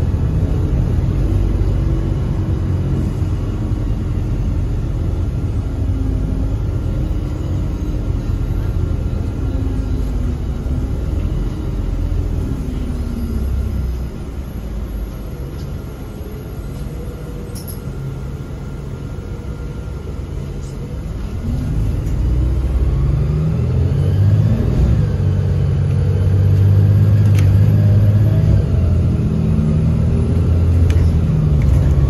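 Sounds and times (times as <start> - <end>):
bus engine: 0.0 - 32.0.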